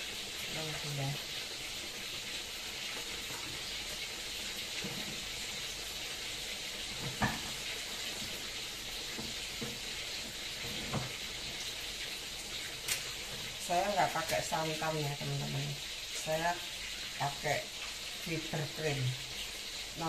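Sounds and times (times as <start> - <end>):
broth bubbling in a wok: 0.0 - 20.0.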